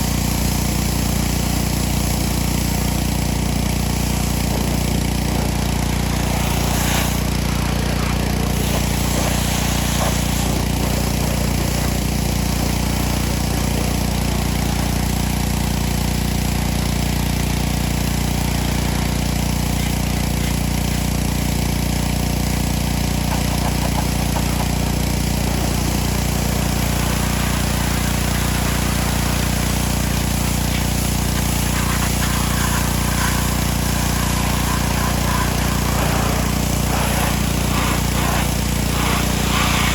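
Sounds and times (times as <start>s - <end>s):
pressure washer engine humming: 0.0s - 39.9s
water spray hissing: 0.0s - 39.9s.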